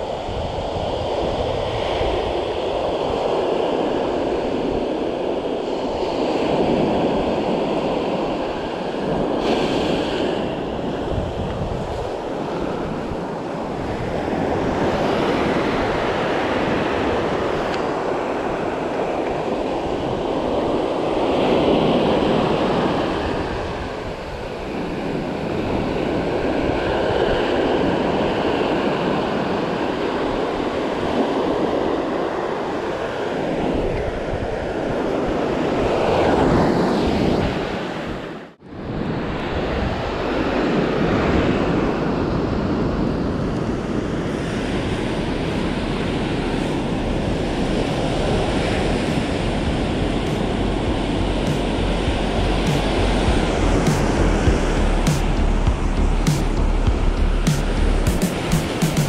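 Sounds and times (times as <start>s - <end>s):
ocean surf breaking on beach: 0.0s - 56.7s.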